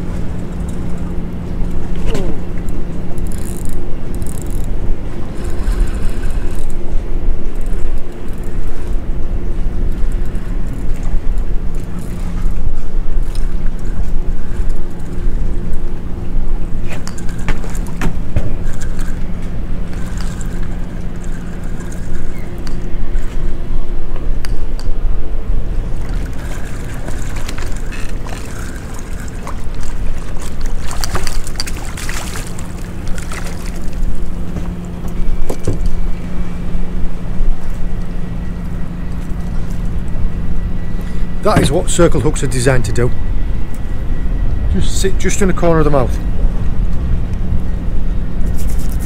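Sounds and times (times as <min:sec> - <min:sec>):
boat motor humming: 0:00.0 - 0:49.0
wind rumbling on microphone: 0:00.0 - 0:49.0.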